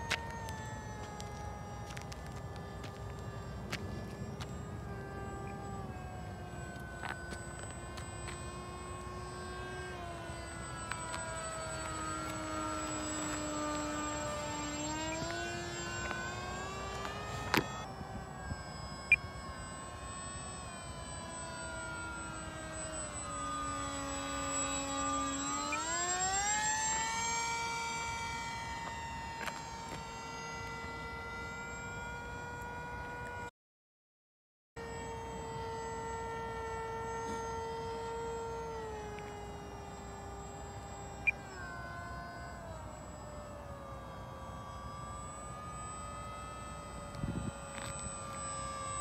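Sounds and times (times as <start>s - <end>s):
model plane motor whining: 0.0s - 33.5s, 34.8s - 49.0s.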